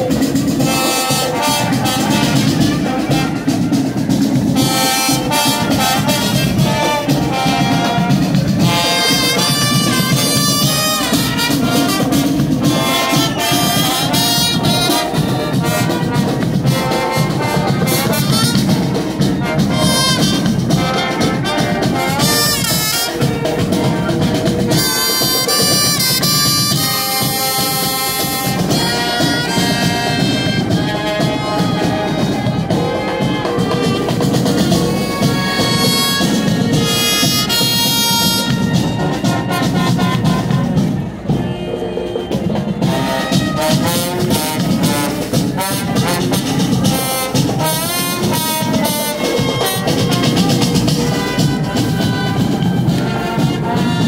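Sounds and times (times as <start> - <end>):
brass and woodwind melody: 0.0 - 54.0
drums: 0.0 - 54.0.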